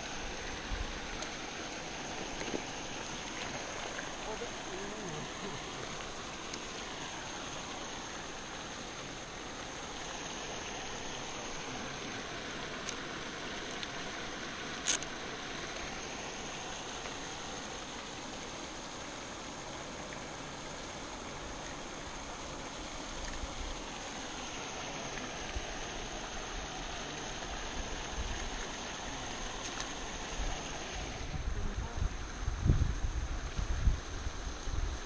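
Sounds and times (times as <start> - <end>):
thin high steady tone: 0.0 - 32.5
outdoor hiss: 0.0 - 35.0.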